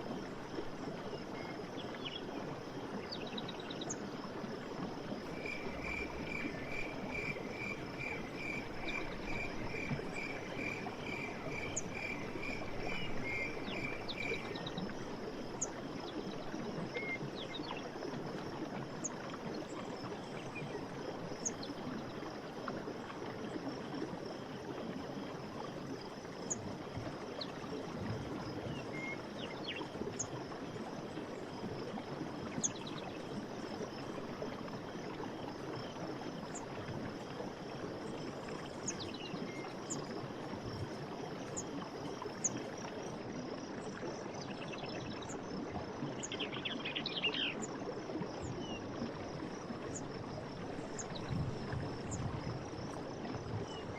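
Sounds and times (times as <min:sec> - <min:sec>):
stream water flowing: 0:00.0 - 0:53.9.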